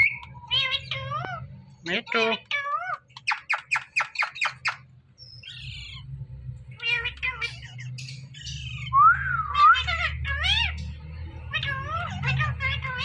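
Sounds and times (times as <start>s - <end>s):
parakeets squawking and screeching: 0.0s - 13.0s.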